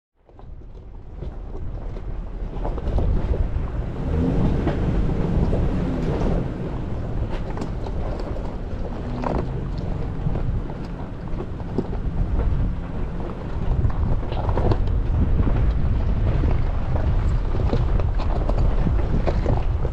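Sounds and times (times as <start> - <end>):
truck engine low rumble: 0.2 - 19.9
tyres crunching over stones: 0.3 - 19.9
wind on microphone: 0.3 - 19.9
rocks knocking under truck: 0.4 - 19.9.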